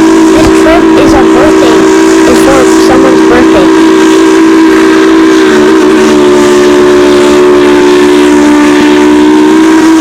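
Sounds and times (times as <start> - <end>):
steam locomotive whistle: 0.0 - 10.0.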